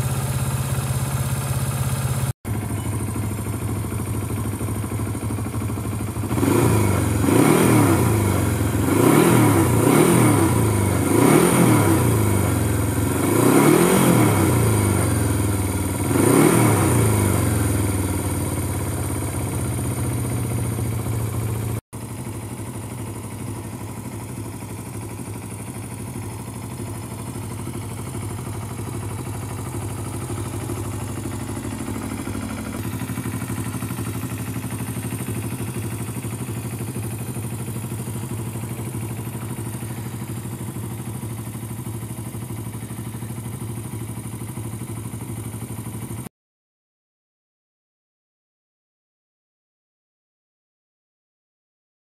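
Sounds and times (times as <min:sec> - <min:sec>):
motorcycle engine idling: 0:00.0 - 0:46.3.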